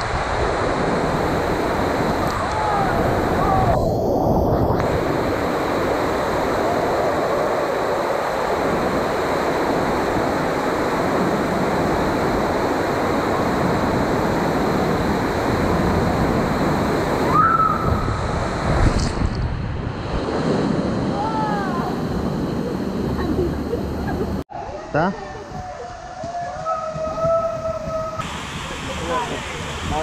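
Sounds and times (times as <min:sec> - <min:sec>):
water and air rushing: 0:00.0 - 0:24.5, 0:27.3 - 0:30.0.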